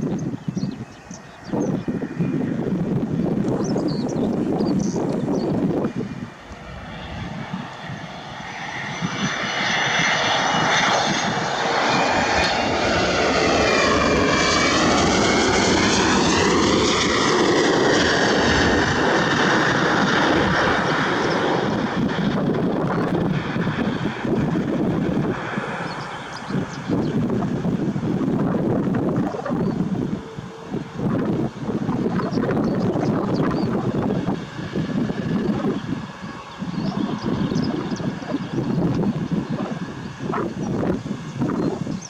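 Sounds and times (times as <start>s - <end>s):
jet airliner passing overhead: 0.0s - 42.0s.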